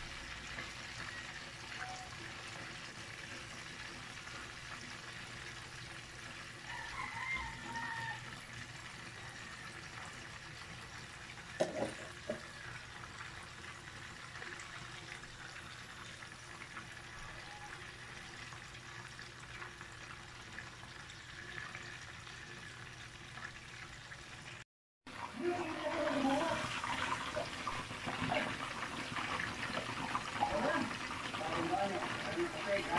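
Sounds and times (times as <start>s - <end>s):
chicken sizzling in hot oil: 0.0s - 32.9s.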